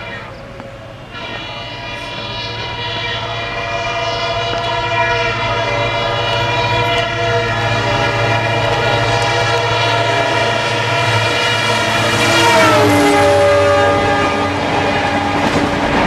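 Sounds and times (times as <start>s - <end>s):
diesel locomotive engine throb: 0.0s - 16.0s
many-toned train drone: 0.0s - 16.0s.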